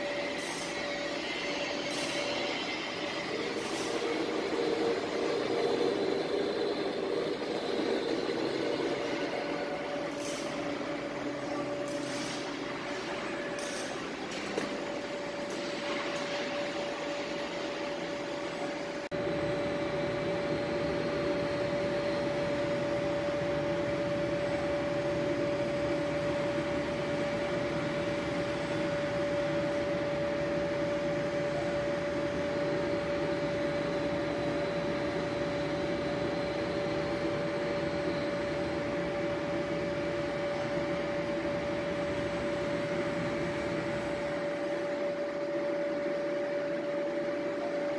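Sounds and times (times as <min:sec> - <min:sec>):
machine hum with high tone: 0:00.0 - 0:47.9.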